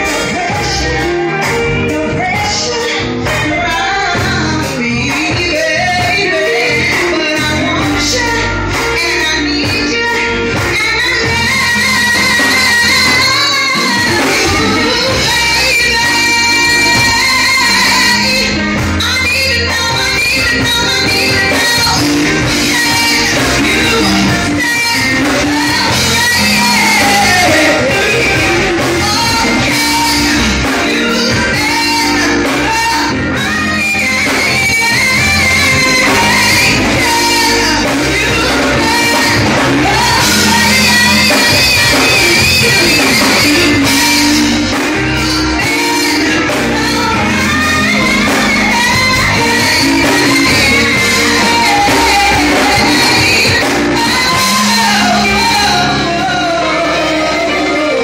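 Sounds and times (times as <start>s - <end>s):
amplified instrumental accompaniment: 0.0s - 58.0s
woman singing into microphone: 0.0s - 58.0s.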